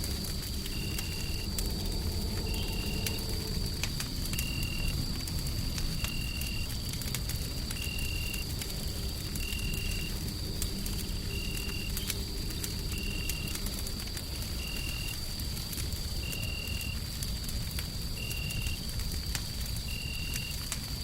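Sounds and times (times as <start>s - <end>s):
low rumble of white noise: 0.0s - 21.0s
wood fire crackling: 0.0s - 21.0s.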